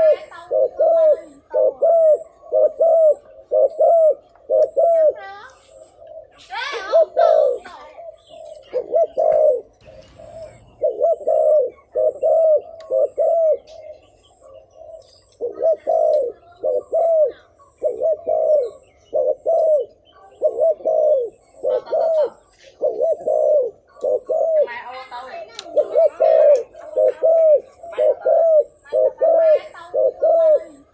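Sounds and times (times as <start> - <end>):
dove cooing: 0.0 - 30.9.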